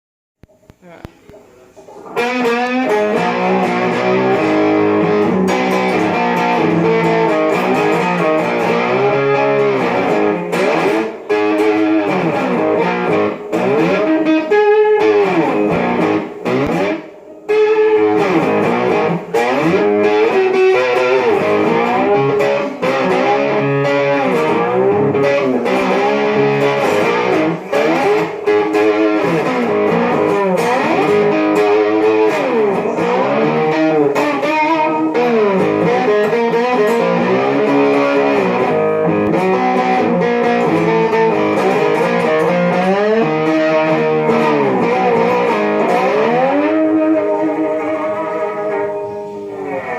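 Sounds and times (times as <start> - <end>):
electric tin-box guitar gliding notes: 0.4 - 49.9.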